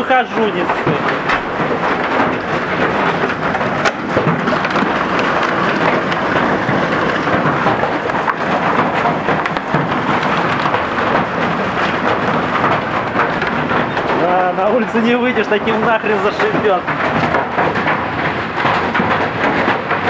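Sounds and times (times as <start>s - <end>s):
hailstone impacts: 0.0s - 20.0s
heavy rain rushing: 0.0s - 20.0s.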